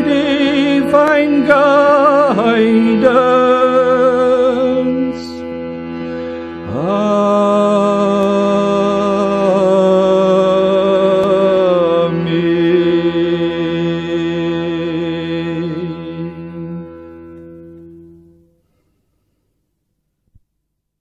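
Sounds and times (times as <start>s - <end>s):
devotional chanting: 0.0s - 17.6s.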